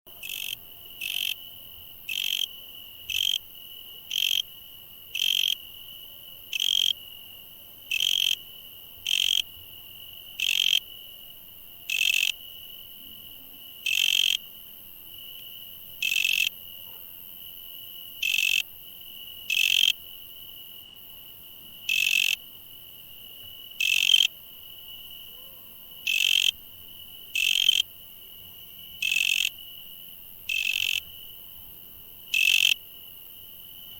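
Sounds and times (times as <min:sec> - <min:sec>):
insect chirping: 0:00.2 - 0:33.9
insects trilling: 0:00.2 - 0:33.9.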